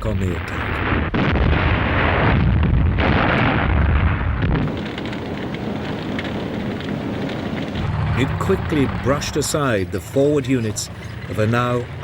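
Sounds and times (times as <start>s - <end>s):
faint scattered crackles: 0.0s - 12.0s
heavy rumbling explosions: 0.0s - 12.0s.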